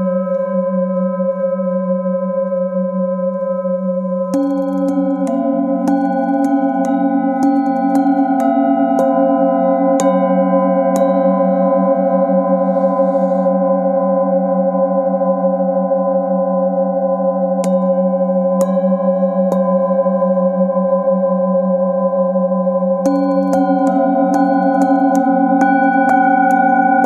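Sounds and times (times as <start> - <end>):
metal singing bowls ringing: 4.2 - 27.0.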